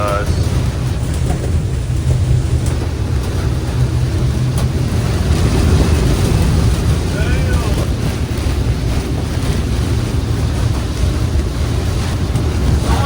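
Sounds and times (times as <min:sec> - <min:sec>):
boat engines humming: 0:00.0 - 0:13.0
wind buffeting microphone: 0:00.0 - 0:13.0.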